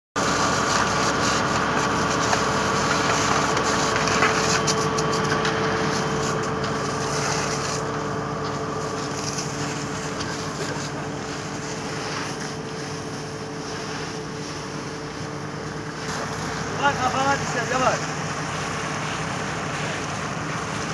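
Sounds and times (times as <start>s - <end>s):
fire truck engine and pump: 0.2s - 20.9s.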